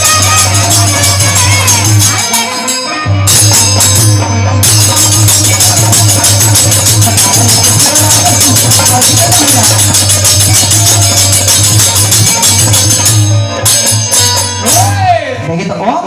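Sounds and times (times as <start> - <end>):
jingling percussion: 0.0 - 15.3
instrumental folk music: 0.0 - 16.0.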